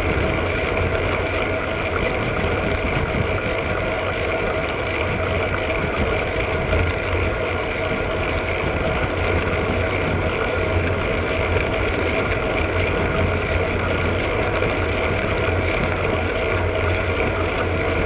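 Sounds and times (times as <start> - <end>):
bike tyres rolling on asphalt: 0.0 - 18.0
wind over camera: 0.0 - 18.0.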